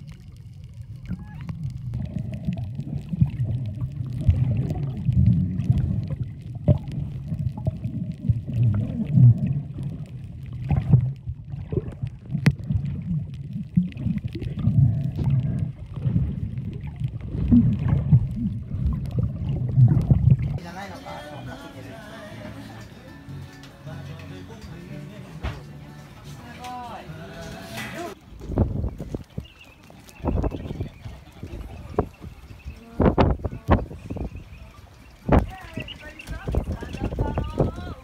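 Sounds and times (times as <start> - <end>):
underwater rumble of moving water: 0.0 - 22.9, 26.8 - 38.0.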